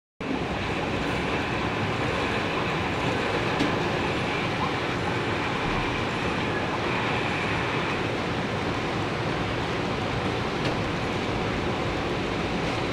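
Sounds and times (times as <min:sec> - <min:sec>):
model train wheels on rail: 0:00.2 - 0:12.9.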